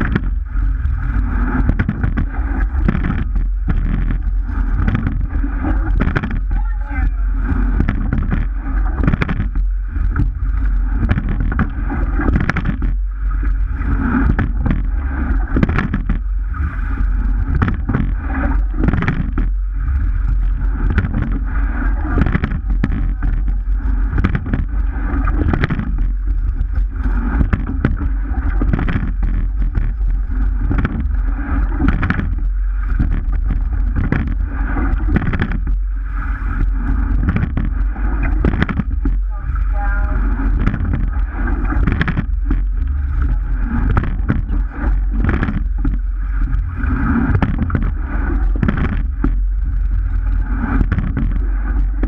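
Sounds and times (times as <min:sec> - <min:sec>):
oars knocking and clicking: 0:00.0 - 0:35.8, 0:36.6 - 0:52.0
wind and water rushing: 0:00.0 - 0:52.0.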